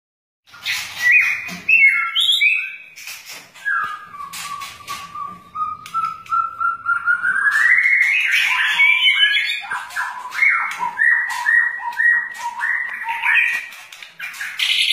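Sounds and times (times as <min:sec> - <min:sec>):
bird whistling song: 0:00.5 - 0:14.9.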